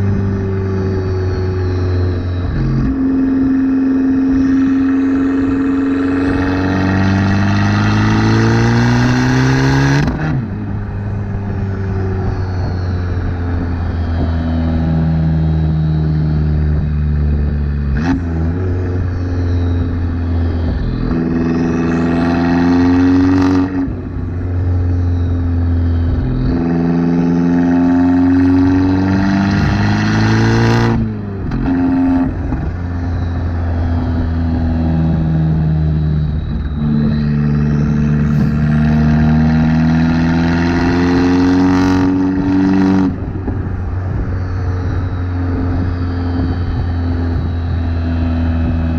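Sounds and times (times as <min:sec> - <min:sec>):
car engine accelerating through gears: 0:00.0 - 0:48.9.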